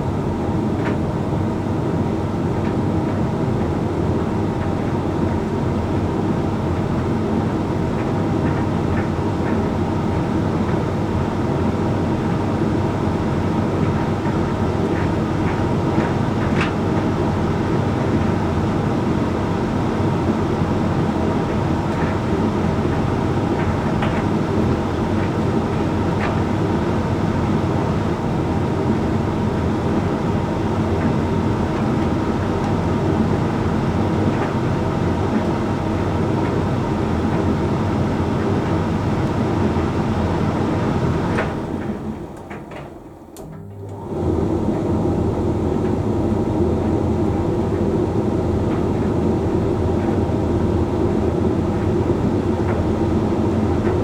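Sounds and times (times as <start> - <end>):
tumble dryer hum and rumble: 0.0 - 54.0.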